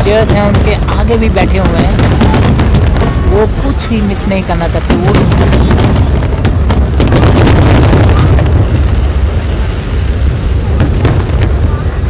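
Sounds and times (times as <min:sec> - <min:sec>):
firework booms: 0:00.0 - 0:12.0
firework cracks and crackle: 0:00.0 - 0:12.0.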